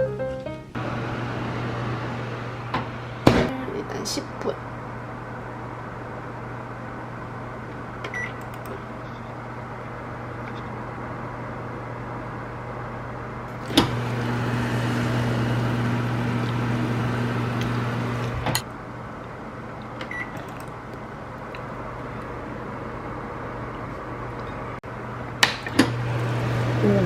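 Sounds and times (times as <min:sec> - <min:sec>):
oven humming: 0:00.0 - 0:27.0.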